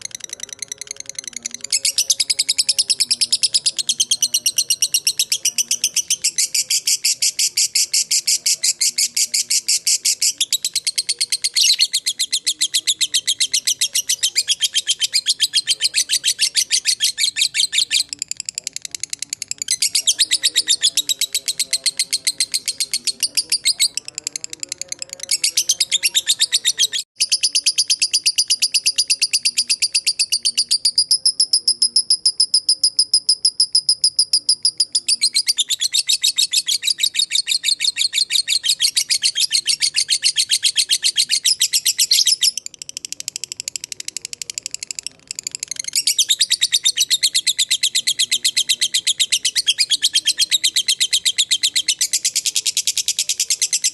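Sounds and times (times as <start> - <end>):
lovebird chattering trill: 0.0 - 53.9.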